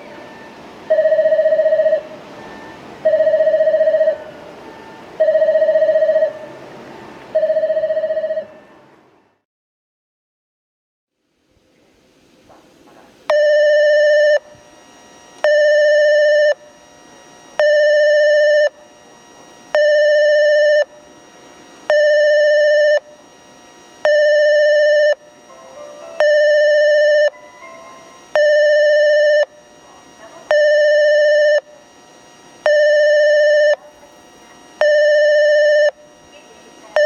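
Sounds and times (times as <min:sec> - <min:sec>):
electronic warning beeps: 0:00.0 - 0:06.6, 0:07.3 - 0:08.8, 0:13.3 - 0:37.0.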